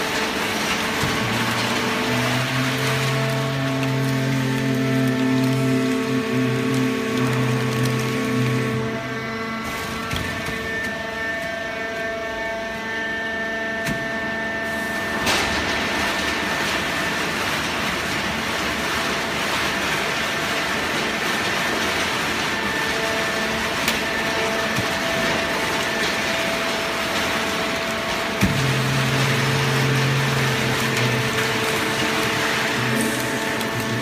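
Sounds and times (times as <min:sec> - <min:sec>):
baler machine hum: 0:00.0 - 0:34.0.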